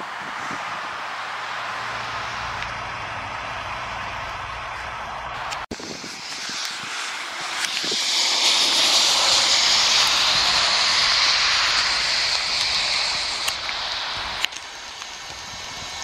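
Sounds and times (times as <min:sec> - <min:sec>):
tyre hiss on wet road: 0:00.0 - 0:16.0.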